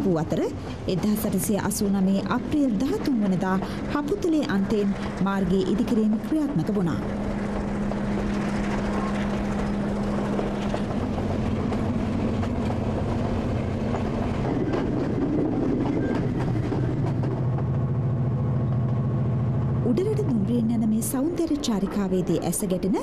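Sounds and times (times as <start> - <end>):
diesel engine drone: 0.0 - 14.4, 17.4 - 23.0
train wheels on rails: 0.0 - 23.0.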